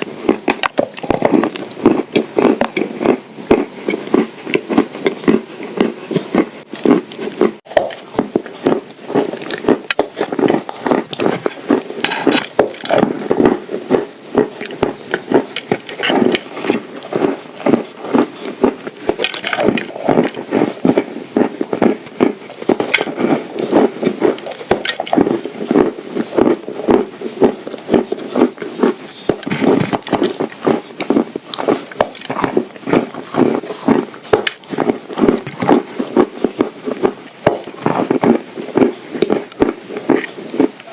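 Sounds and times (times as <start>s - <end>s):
crunching and chewing dry clay: 0.0s - 40.9s.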